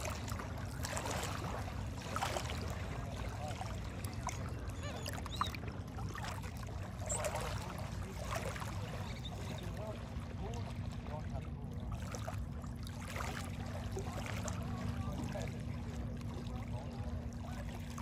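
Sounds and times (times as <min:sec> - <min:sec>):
boat engines idling: 0:00.0 - 0:18.0.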